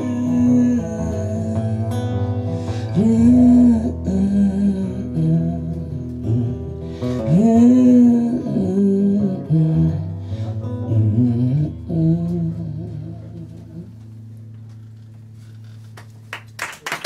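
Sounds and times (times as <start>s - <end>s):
man singing wordless notes: 0.0s - 14.0s
acoustic guitar: 0.0s - 16.6s.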